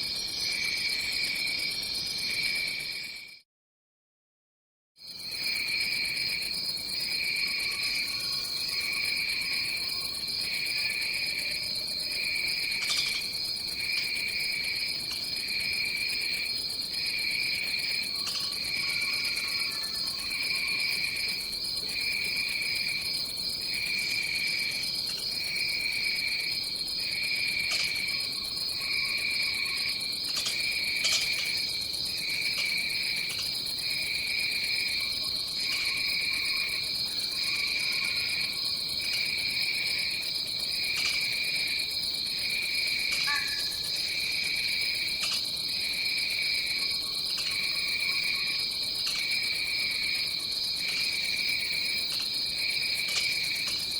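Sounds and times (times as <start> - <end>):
pulsing low insect call: 5.0 - 53.9
high-pitched insect trill: 5.4 - 53.9.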